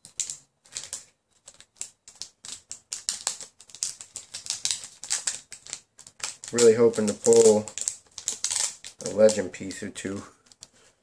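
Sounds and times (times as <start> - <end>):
foil wrapper crinkling: 0.1 - 10.7.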